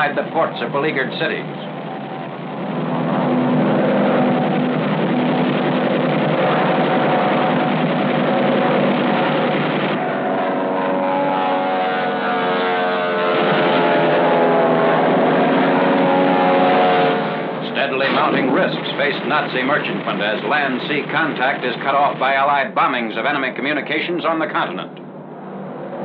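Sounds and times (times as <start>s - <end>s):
piston aircraft engines droning: 0.0s - 26.0s.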